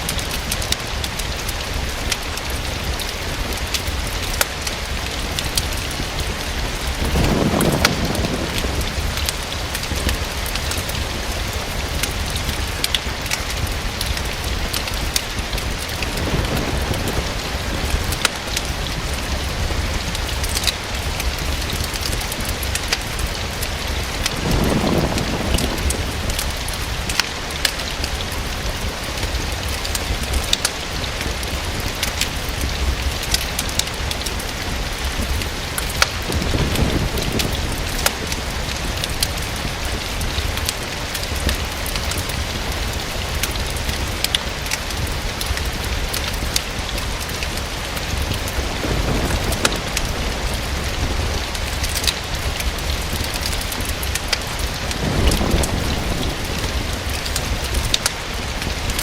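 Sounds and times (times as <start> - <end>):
rain against a window: 0.0 - 59.0.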